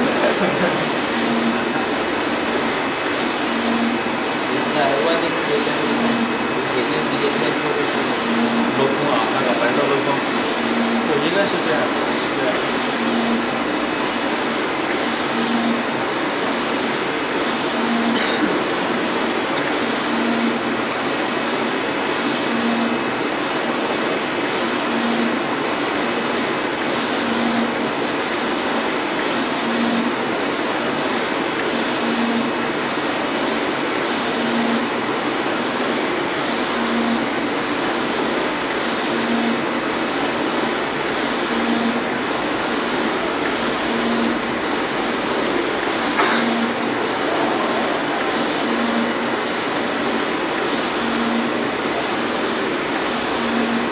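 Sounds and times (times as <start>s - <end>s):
printer carriage whirring: 0.0s - 53.9s.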